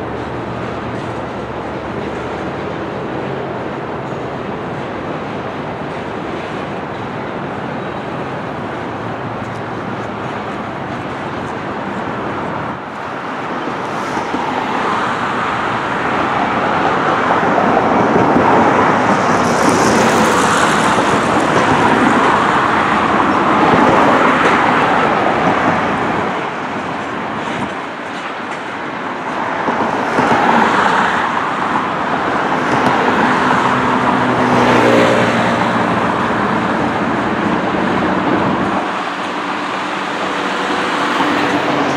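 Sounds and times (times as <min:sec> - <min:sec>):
freight train rolling past: 0:00.0 - 0:41.9
road traffic passing: 0:00.0 - 0:41.9.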